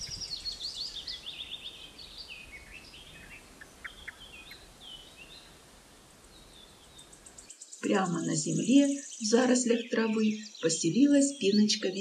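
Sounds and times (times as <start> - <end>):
small songbirds singing: 0.0 - 12.0.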